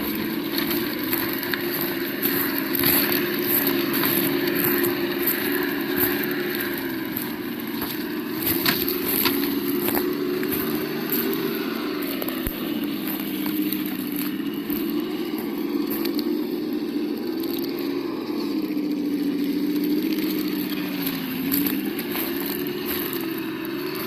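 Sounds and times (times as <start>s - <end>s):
simulated engine sound: 0.0s - 24.0s.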